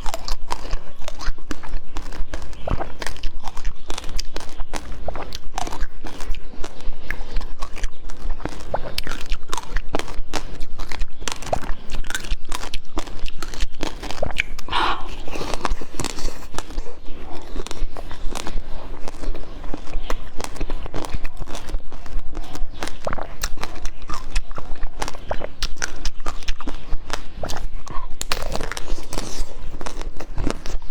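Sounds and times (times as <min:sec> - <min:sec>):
person biting and chewing food: 0:00.0 - 0:30.9.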